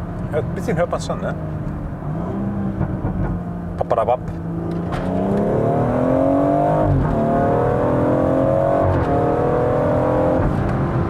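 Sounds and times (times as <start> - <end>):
car engine accelerating hard: 0.4 - 11.0.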